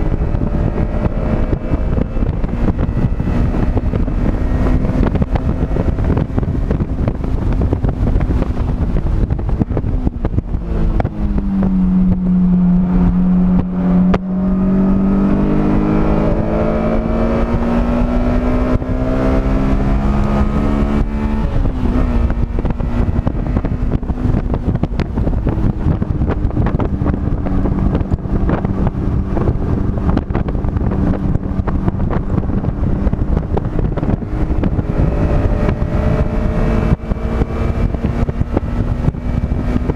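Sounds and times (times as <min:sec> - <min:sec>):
race car engine: 0:00.0 - 0:39.9
wind noise: 0:00.0 - 0:39.9.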